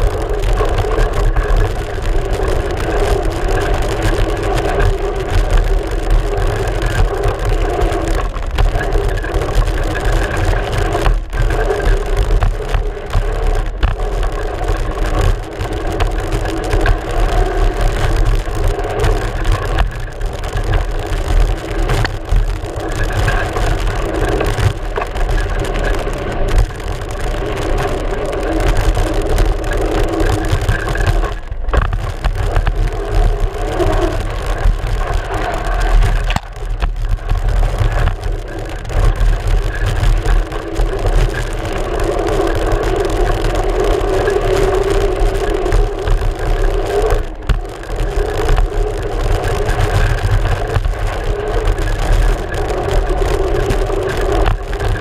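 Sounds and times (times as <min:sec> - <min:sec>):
bike tyre rumbling over dirt: 0:00.0 - 0:55.0.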